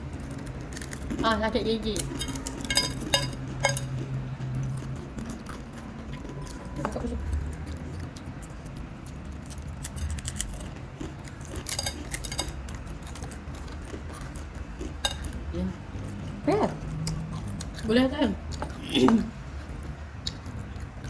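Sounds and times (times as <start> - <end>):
crunching and chewing crispy snack: 0.0 - 21.0.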